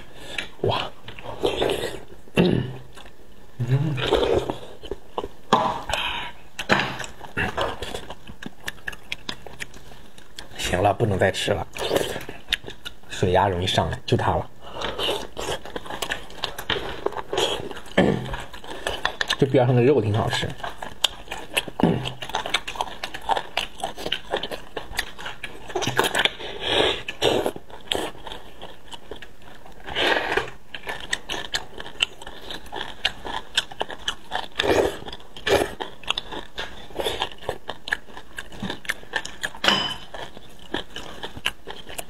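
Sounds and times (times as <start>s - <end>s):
wet chewing: 3.8s - 13.1s, 13.7s - 42.0s.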